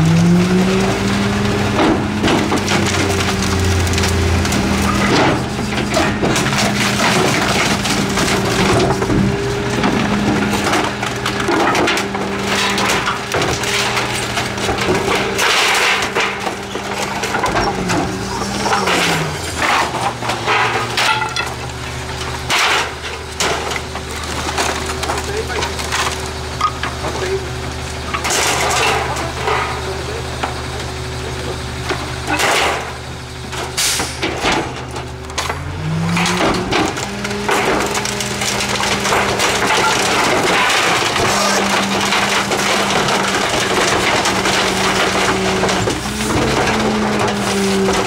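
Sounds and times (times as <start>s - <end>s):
diesel engine running: 0.0s - 48.0s
garbage truck packer crushing trash: 0.0s - 48.0s
wood cracking and splintering: 0.0s - 48.0s.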